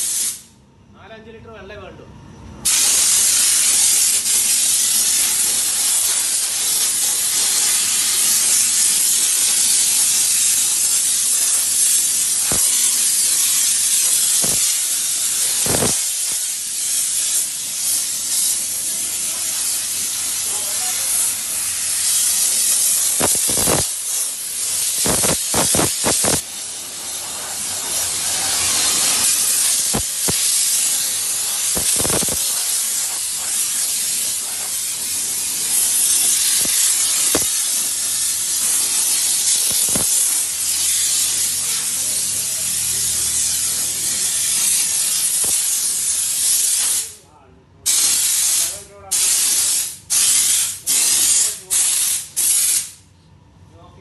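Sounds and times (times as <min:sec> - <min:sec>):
steam lance hissing: 0:00.0 - 0:00.5, 0:02.6 - 0:47.2, 0:47.9 - 0:53.0.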